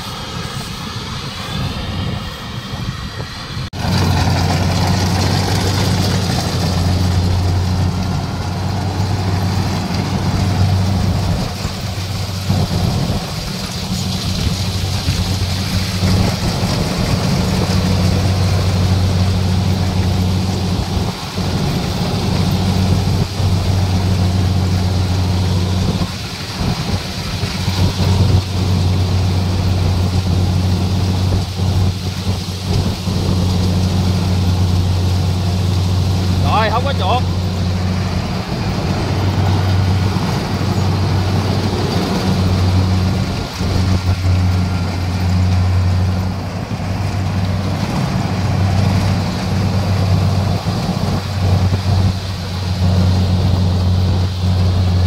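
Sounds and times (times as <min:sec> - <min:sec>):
diesel engine drone: 0:00.0 - 0:55.0
threshing machinery clatter: 0:03.7 - 0:55.0.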